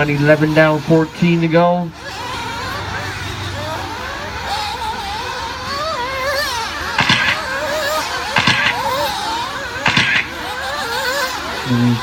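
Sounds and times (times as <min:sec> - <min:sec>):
rc buggy engines revving: 0:00.0 - 0:12.0
scraping bursts with knocks: 0:02.0 - 0:12.0.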